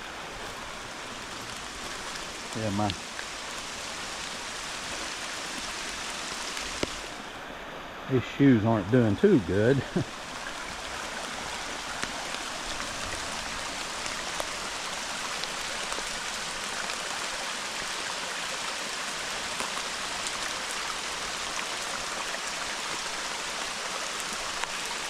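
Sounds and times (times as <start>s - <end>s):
raindrops ticking nearby: 0.0s - 7.4s, 8.1s - 18.0s, 19.3s - 25.0s
flooding creek rushing: 0.0s - 25.0s
hard rain hissing: 0.0s - 25.0s.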